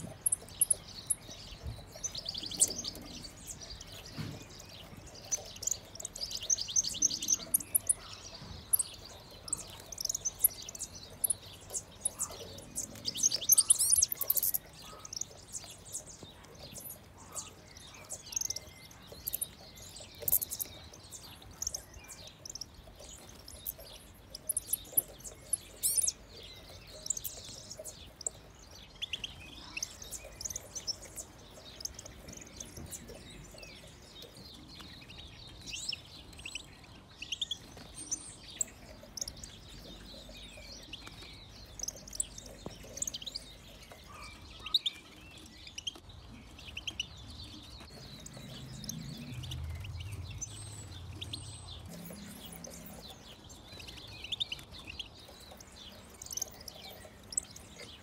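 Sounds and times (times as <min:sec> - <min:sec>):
goldfinches chirping: 0:00.0 - 0:58.0.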